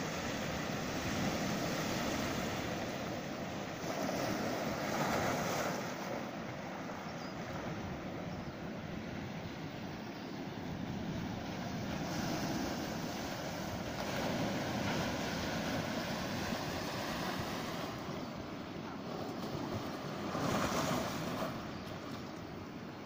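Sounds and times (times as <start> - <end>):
surf washing among rocks: 0.0 - 6.8, 10.8 - 23.0.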